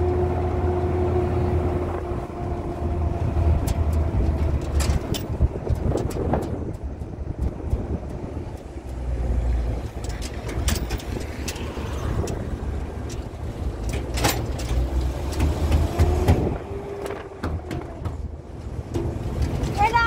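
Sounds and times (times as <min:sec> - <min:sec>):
truck engine and road rumble: 0:00.0 - 0:20.0
knocks and rattles: 0:03.4 - 0:20.0.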